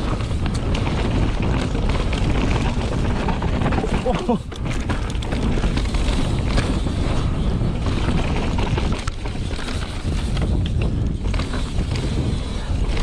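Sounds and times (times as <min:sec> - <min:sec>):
bike rattling over bumps: 0:00.0 - 0:13.0
tyres rumbling on dirt: 0:00.0 - 0:13.0
wind on microphone: 0:00.0 - 0:13.0.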